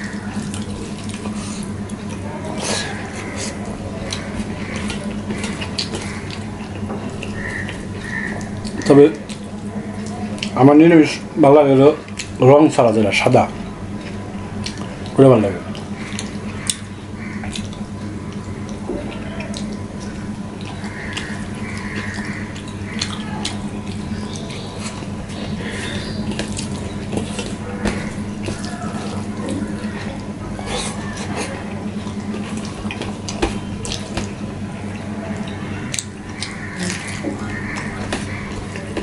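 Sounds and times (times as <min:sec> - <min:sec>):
wet chewing and lip-smacking: 0:00.0 - 0:10.6, 0:12.0 - 0:12.4, 0:13.8 - 0:39.0
steady low hum: 0:00.0 - 0:39.0.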